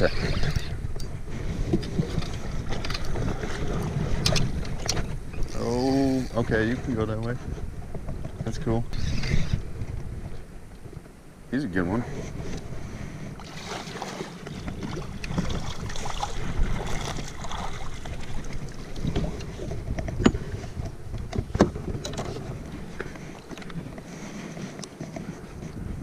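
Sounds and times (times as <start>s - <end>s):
water sloshing around kayak: 0.0s - 11.1s, 11.9s - 26.0s
wind buffeting microphone: 0.0s - 26.0s.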